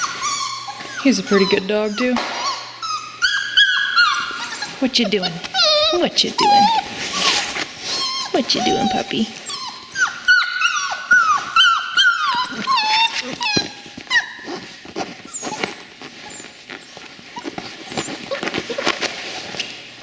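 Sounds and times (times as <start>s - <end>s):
puppies whining: 0.0s - 20.0s.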